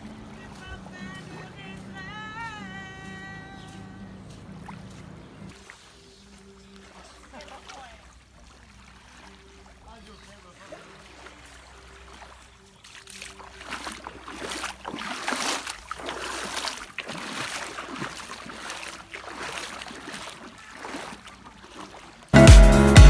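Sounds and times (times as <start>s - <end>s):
seawater lapping and splashing: 0.0s - 22.4s.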